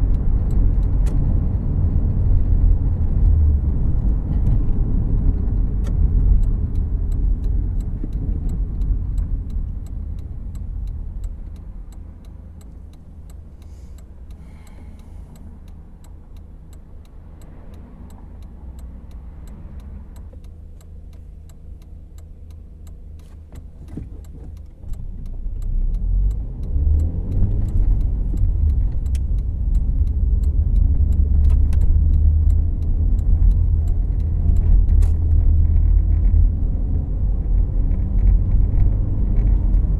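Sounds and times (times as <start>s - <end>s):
faint regular ticking: 0.0s - 2.8s, 4.0s - 36.4s
car engine and road rumble: 0.0s - 39.9s.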